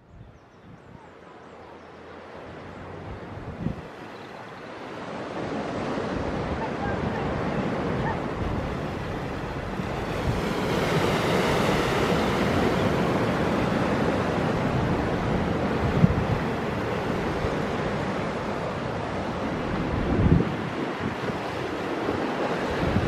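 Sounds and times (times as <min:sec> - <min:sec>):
wind rumble on microphone: 0:00.0 - 0:01.2, 0:02.7 - 0:04.1, 0:05.2 - 0:23.0
waves breaking on shore: 0:01.1 - 0:23.0.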